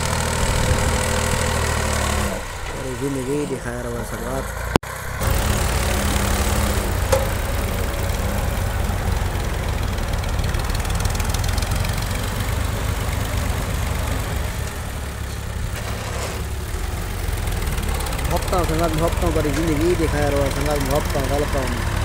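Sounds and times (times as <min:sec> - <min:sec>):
tractor diesel engine throbbing: 0:00.0 - 0:22.0.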